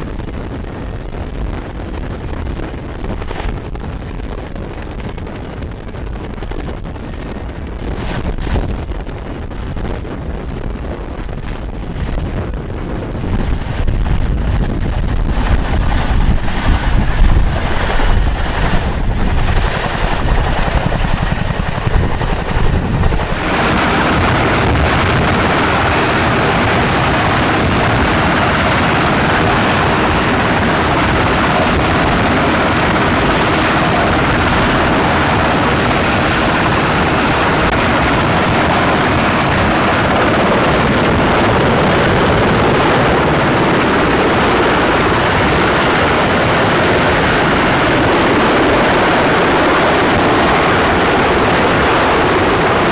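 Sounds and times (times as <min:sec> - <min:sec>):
helicopter turbine and rotor: 0:00.0 - 0:52.9
wind buffeting microphone: 0:00.0 - 0:52.9.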